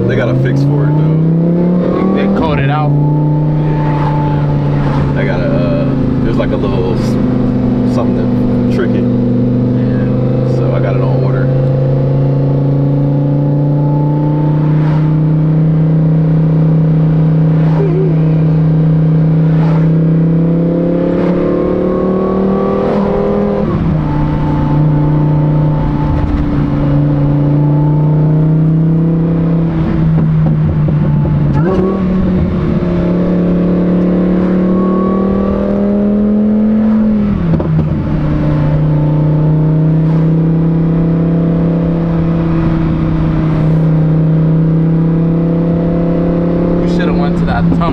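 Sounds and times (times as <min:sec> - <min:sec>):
sports car engine revving: 0:00.0 - 0:47.9.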